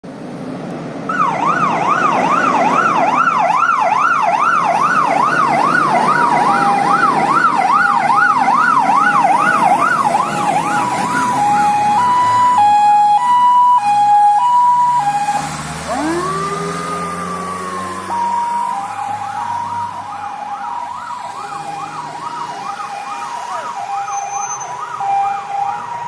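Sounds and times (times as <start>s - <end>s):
rising and falling siren sweep: 1.0s - 26.0s
two-tone high-low siren: 1.1s - 26.0s.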